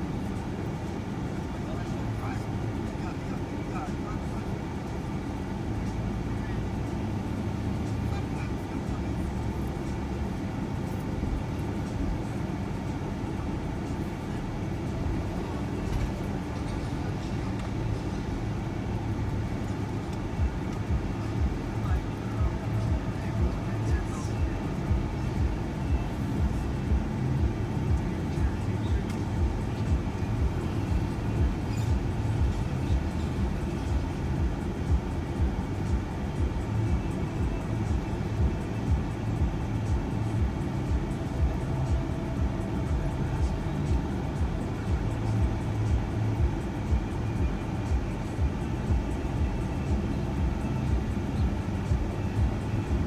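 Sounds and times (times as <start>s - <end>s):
road and engine rumble: 0.0s - 53.0s.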